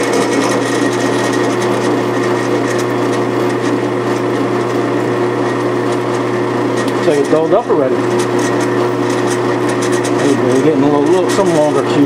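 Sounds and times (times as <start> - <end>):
drill press cutting metal: 0.0 - 12.0
motor hum: 0.0 - 12.0.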